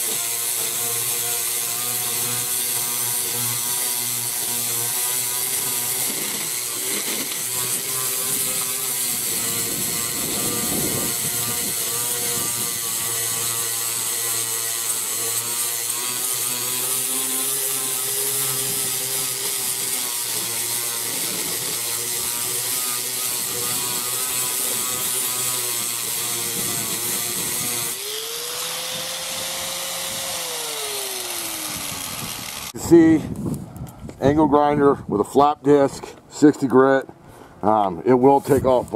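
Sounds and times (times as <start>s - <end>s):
grinder motor winding down: 0.0s - 32.8s
angle grinder grinding metal: 0.0s - 33.2s.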